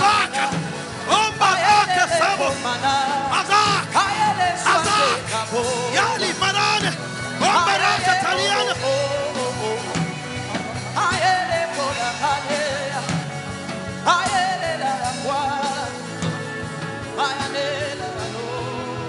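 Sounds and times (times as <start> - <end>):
music with steady beat: 0.0 - 19.0.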